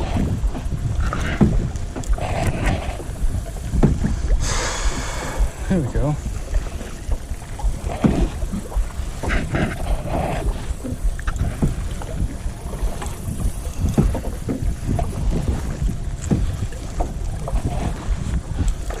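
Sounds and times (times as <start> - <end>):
paddle knocks: 0.0 - 19.0
paddle strokes in water: 0.0 - 19.0
wind on microphone: 0.0 - 19.0.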